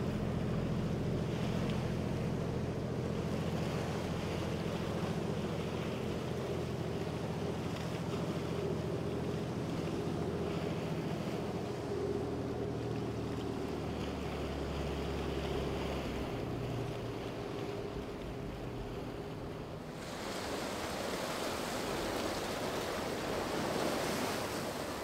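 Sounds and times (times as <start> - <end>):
boat engine drone: 0.0 - 25.0
bow wave and wake rushing: 0.0 - 25.0.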